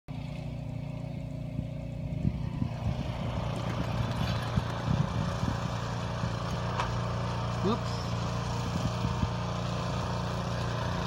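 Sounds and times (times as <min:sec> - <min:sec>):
engine humming: 0:00.1 - 0:11.0.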